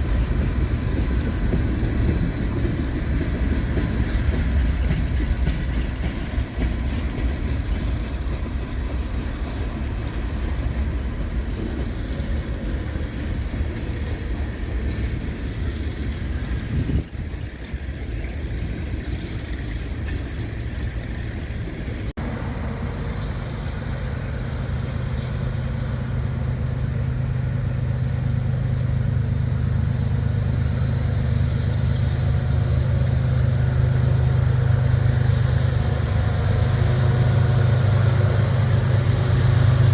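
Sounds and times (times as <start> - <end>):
diesel locomotive drone: 0.0 - 39.9
freight train wheels rumbling: 0.0 - 39.9.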